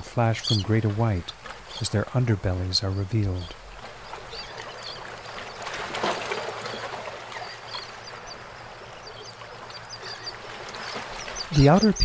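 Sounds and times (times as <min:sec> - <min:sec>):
water lapping and splashing: 0:00.0 - 0:12.0.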